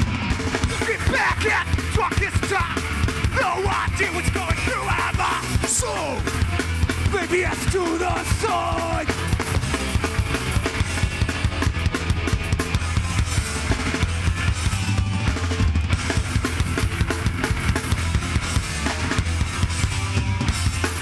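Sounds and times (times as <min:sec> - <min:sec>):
bass guitar: 0:00.0 - 0:21.0
distorted guitar: 0:00.0 - 0:21.0
fast drum kit beats: 0:00.0 - 0:21.0.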